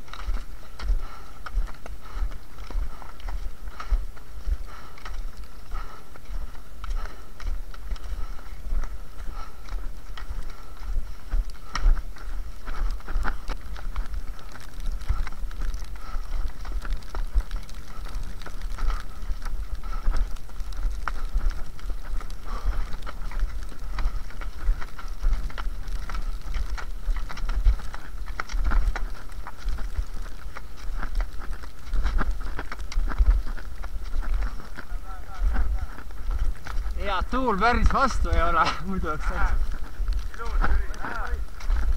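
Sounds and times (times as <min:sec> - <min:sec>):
wind rumble on microphone: 0:00.0 - 0:37.3, 0:39.2 - 0:41.9.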